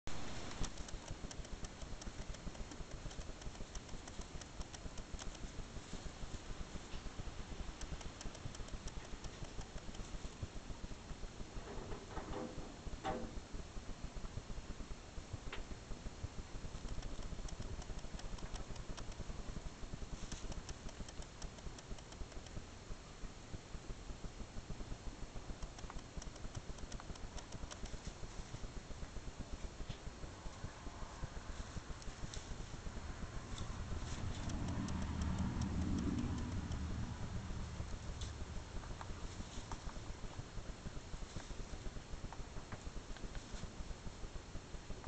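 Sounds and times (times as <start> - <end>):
rabbits chewing hay: 0.1 - 13.3, 14.1 - 45.0
steady hiss: 0.1 - 45.0.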